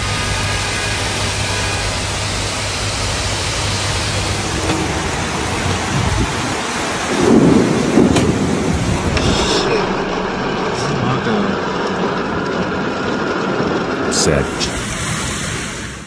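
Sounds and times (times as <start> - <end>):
torrential rain: 0.0 - 16.0
rushing floodwater: 1.3 - 16.0.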